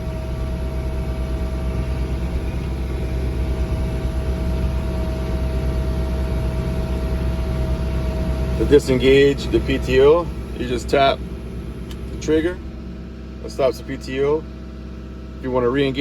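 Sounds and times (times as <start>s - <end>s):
constant hydraulic whine: 0.0s - 16.0s
diesel engine running: 0.0s - 16.0s.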